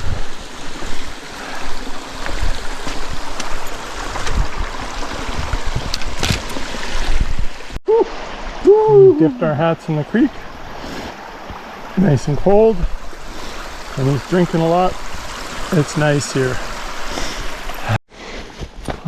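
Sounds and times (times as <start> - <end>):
creek water running: 0.0 - 18.0.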